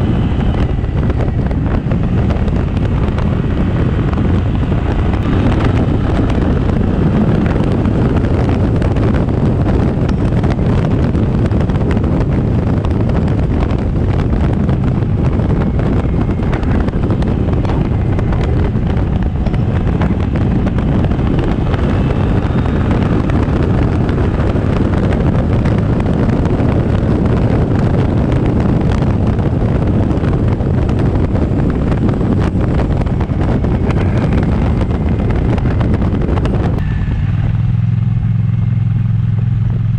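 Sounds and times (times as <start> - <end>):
scooter engine and road noise: 0.0 - 39.9
wind on microphone: 0.0 - 39.9.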